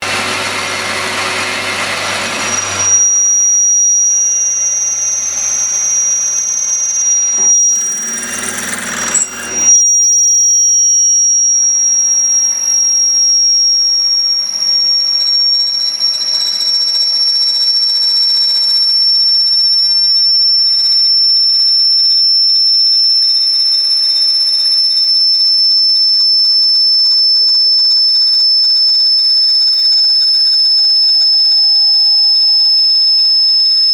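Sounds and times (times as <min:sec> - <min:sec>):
lathe cutting squeal: 0:00.0 - 0:22.3, 0:23.3 - 0:33.9.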